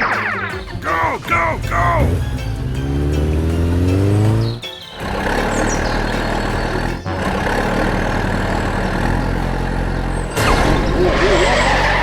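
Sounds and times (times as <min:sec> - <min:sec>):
vehicle engine running: 0:00.5 - 0:12.0.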